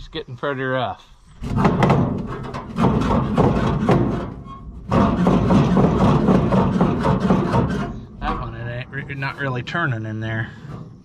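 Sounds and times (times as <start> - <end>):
rusty metal parts clanking: 1.3 - 11.0.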